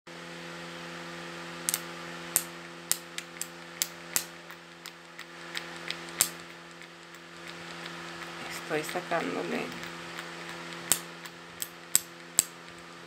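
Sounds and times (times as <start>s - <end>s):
electrical hum: 0.1s - 13.0s.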